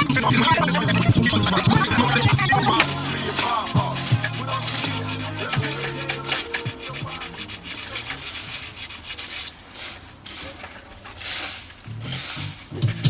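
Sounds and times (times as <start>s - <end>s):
sandpaper rubbing on wood: 0.0s - 12.8s.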